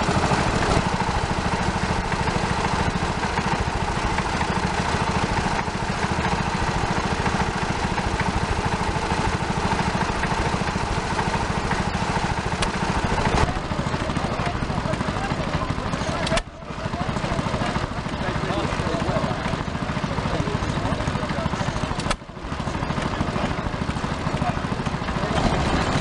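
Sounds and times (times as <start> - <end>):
two-stroke engine running: 0.0 - 26.0.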